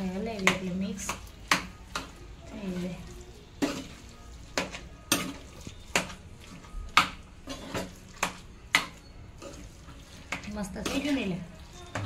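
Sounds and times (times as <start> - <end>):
spoon stirring in a bowl: 0.0 - 12.0.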